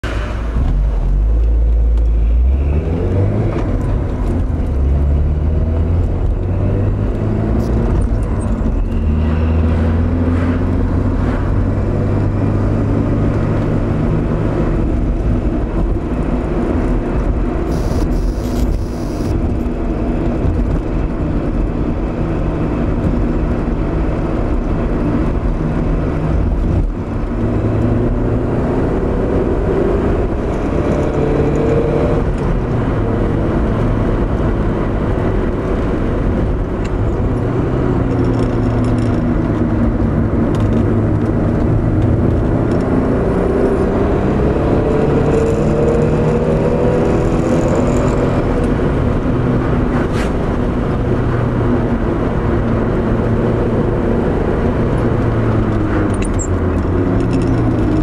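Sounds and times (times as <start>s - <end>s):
car engine accelerating through gears: 0.0s - 58.0s
road and tyre noise: 0.0s - 58.0s.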